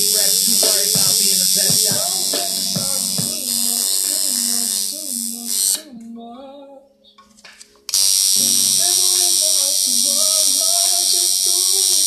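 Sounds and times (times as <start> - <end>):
tattoo machine buzzing: 0.0 - 5.9, 7.9 - 12.0
music with singing voice: 0.0 - 7.8, 8.4 - 12.0.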